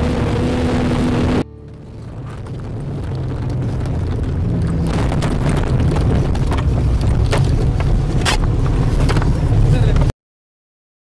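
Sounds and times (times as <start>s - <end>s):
engine low rumble: 0.0s - 10.1s
vehicle interior rattling: 0.0s - 10.1s.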